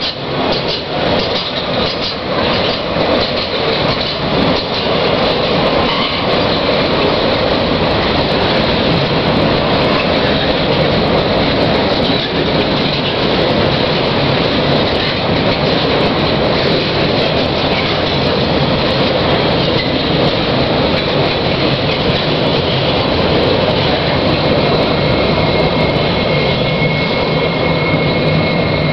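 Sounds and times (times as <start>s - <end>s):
high wheel squeal: 0.0s - 8.9s, 11.8s - 28.9s
train wagons rumbling on rails: 0.0s - 28.9s.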